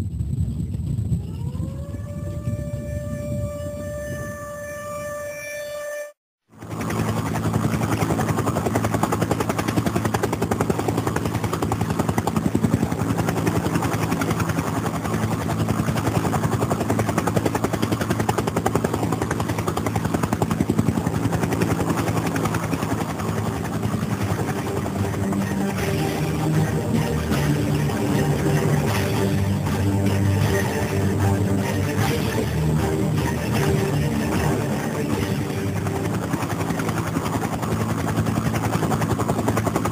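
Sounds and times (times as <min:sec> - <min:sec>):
low drone: 0:00.0 - 0:39.9
fast steady pulsing: 0:06.5 - 0:39.9.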